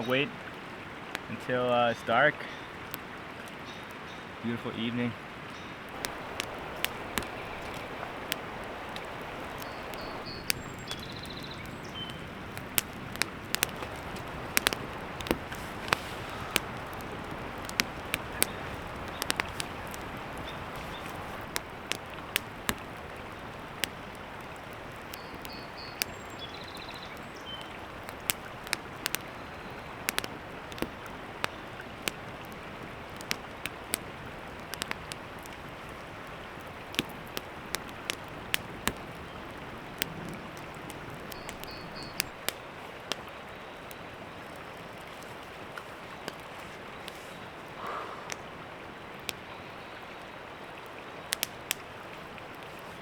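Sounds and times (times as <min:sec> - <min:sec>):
campfire crackling and popping: 0:00.0 - 0:04.1, 0:04.8 - 0:53.0
creek rushing: 0:00.0 - 0:53.0.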